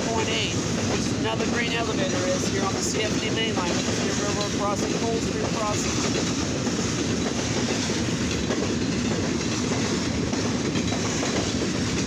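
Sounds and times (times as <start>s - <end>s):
steel train wheels rumbling on track: 0.0s - 12.0s.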